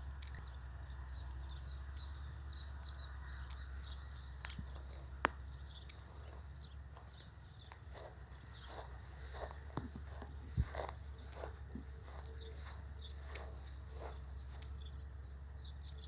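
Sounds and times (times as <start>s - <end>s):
low steady rumble: 0.0s - 16.0s
insects and birds chirping: 0.4s - 16.0s.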